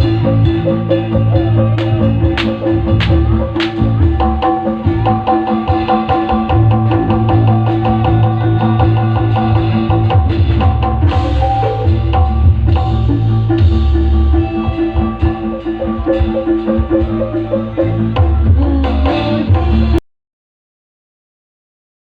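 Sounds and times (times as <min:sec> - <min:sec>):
percussion-driven music: 0:00.0 - 0:20.0.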